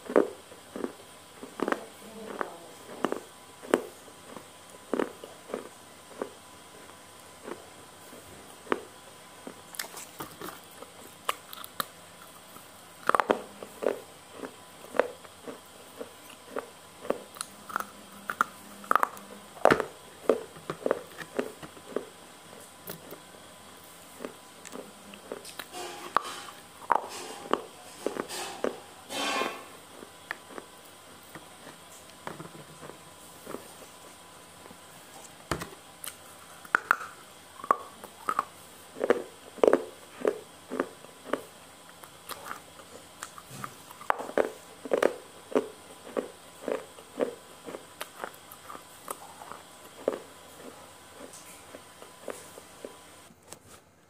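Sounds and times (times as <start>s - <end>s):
person chewing noodles: 0.0s - 35.4s, 36.0s - 53.3s.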